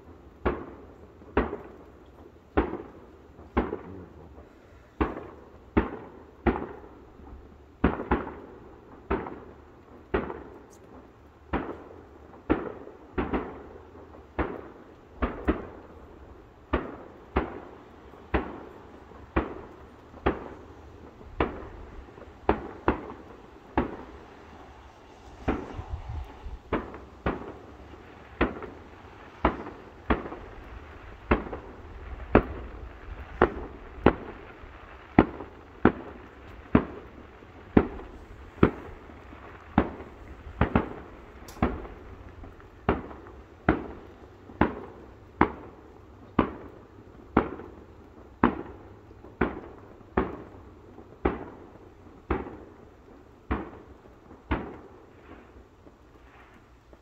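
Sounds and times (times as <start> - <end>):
distant fireworks bangs: 0.0 - 57.0.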